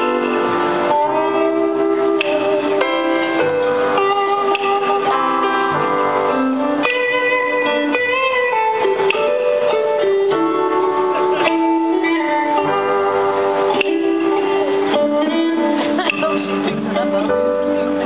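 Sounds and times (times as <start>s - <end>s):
blues band playing: 0.0s - 18.0s
electric guitar notes: 0.0s - 18.0s.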